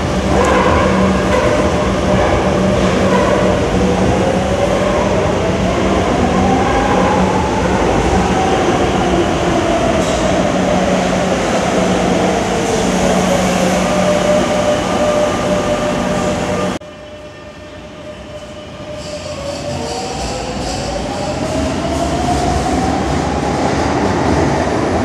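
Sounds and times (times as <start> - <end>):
train hum and rumble: 0.0 - 25.0.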